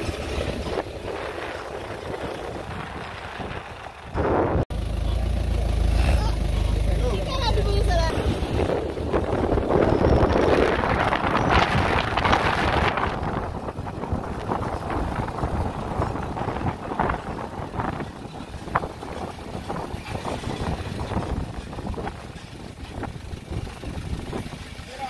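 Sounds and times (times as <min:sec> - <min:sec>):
wind buffeting microphone: 0:00.0 - 0:04.8, 0:07.0 - 0:25.0
vehicle driving: 0:00.0 - 0:25.0.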